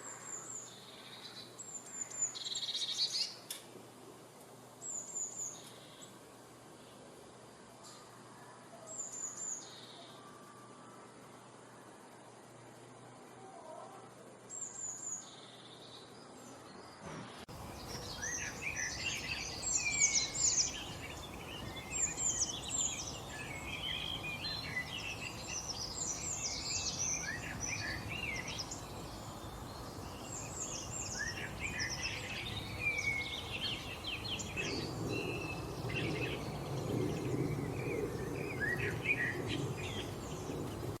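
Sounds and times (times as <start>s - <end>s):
songbirds chirping and singing: 0.0s - 3.4s, 7.8s - 41.0s
low steady noise: 0.0s - 41.0s
steady background noise: 0.0s - 41.0s.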